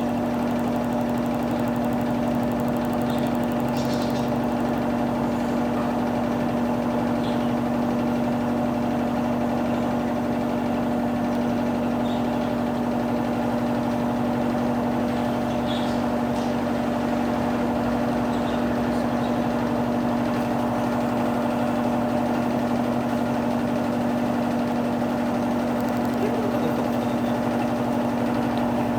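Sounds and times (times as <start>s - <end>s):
washing machine motor hum: 0.0s - 28.9s.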